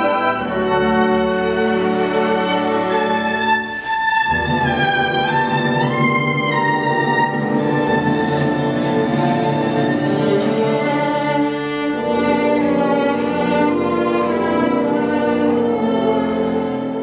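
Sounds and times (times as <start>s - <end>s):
lower accompaniment: 0.0s - 17.0s
violin with vibrato: 0.0s - 17.0s.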